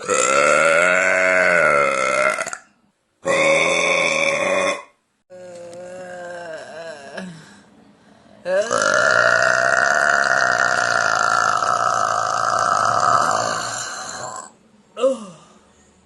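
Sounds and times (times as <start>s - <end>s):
woman burping loudly: 0.0s - 7.3s, 8.5s - 15.1s.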